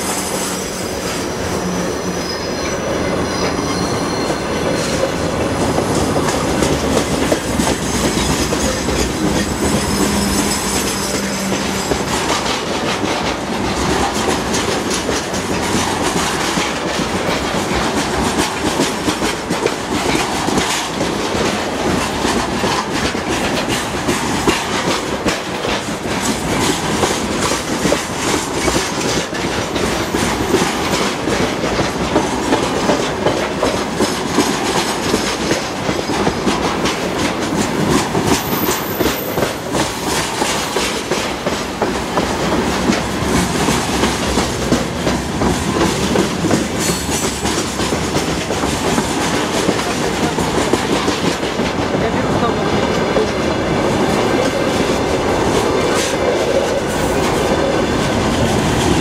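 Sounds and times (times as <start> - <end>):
freight wagons clattering over rail joints: 3.3 - 59.0.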